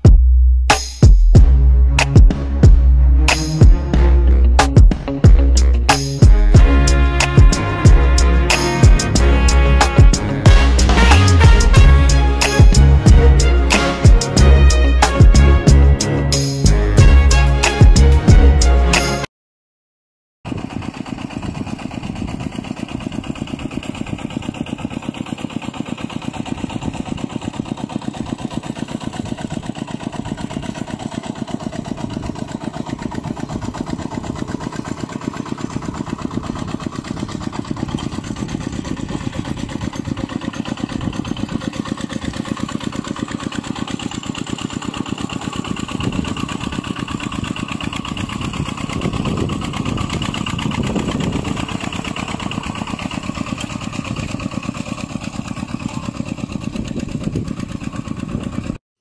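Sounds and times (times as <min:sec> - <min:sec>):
diesel engine chugging: 0:00.0 - 0:19.3, 0:20.5 - 0:58.8.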